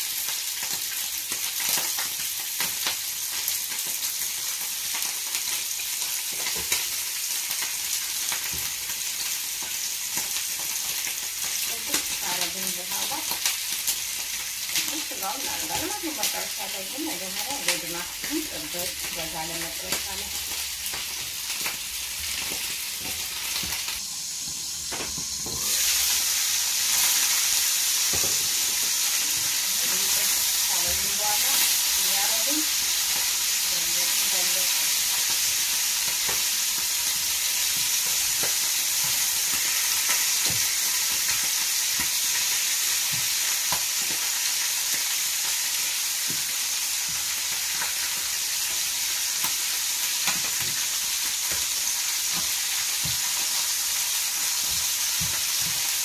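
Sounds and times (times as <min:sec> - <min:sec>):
meat sizzling in frying pan: 0:00.0 - 0:56.0.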